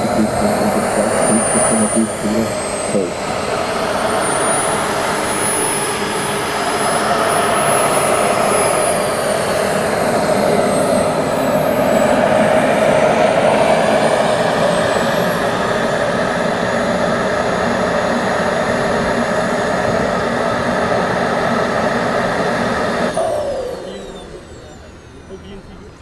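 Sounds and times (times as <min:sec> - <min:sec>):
model jet turbine whining: 0:00.0 - 0:26.0.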